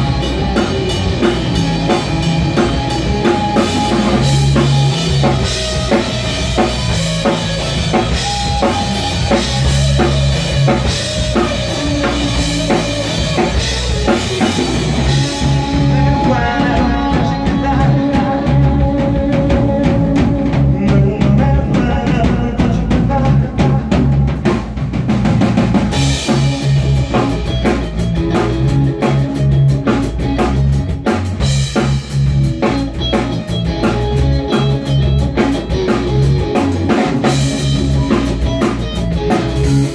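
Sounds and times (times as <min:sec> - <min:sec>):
electric guitar: 0:00.0 - 0:39.9
live rock band playing: 0:00.0 - 0:39.9.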